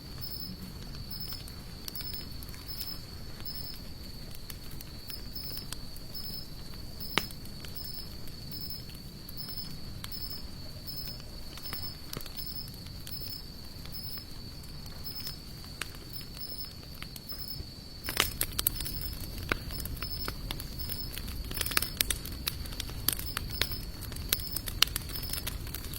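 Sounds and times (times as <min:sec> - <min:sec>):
campfire crackling and popping: 0:00.0 - 0:25.9
insect chirping: 0:00.0 - 0:25.9.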